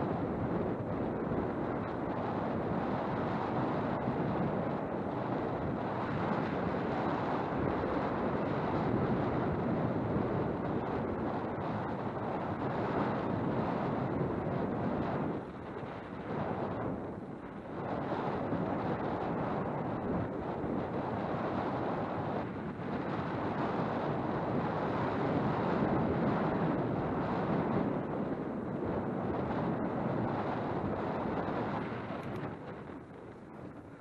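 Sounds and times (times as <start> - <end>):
wind buffeting camera microphone: 0.0 - 34.0.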